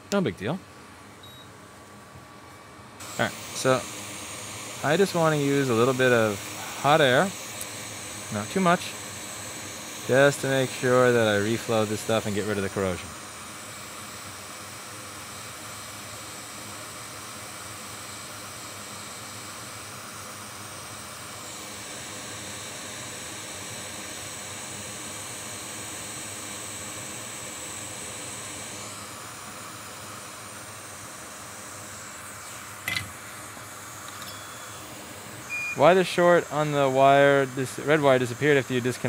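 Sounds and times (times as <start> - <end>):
hot air blower hissing: 3.0 - 39.0.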